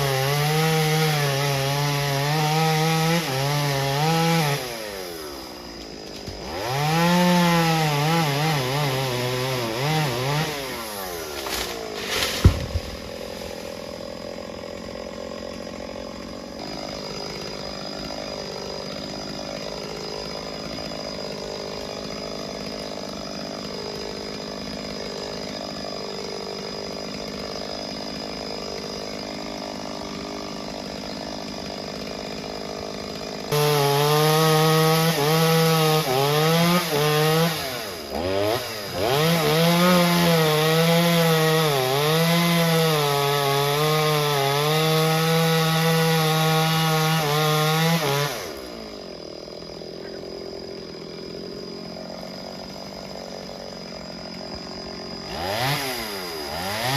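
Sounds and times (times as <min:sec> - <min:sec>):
chainsaw cutting tree trunk: 0:00.0 - 0:56.9.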